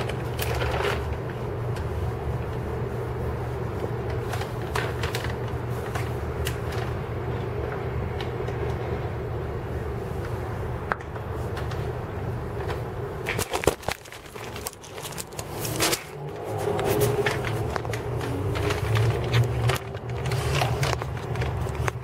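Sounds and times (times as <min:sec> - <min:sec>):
steady low rumble: 0:01.1 - 0:22.0.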